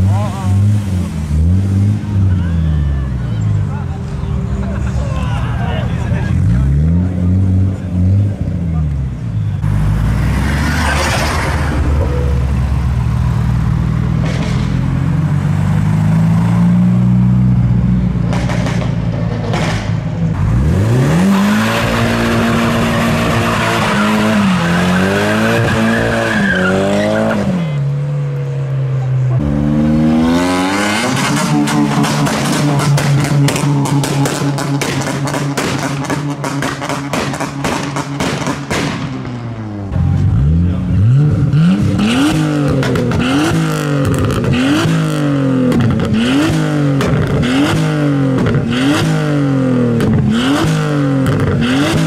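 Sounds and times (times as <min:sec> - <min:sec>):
car engines accelerating: 0:00.0 - 0:52.0.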